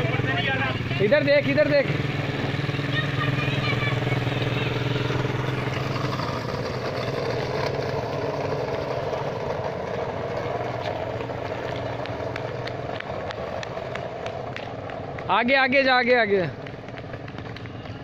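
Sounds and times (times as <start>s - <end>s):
mini quad bike engine: 0.0s - 18.0s.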